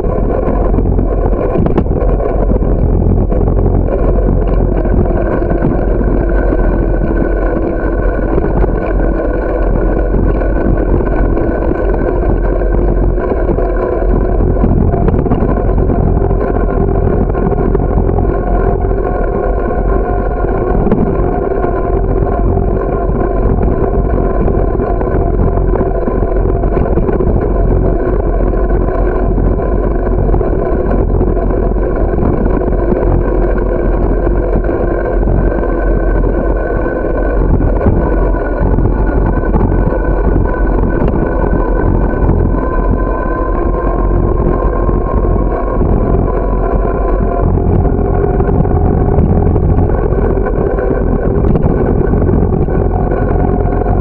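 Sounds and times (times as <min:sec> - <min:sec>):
constant whine: 0:00.0 - 0:54.0
wind and road rumble: 0:00.0 - 0:54.0.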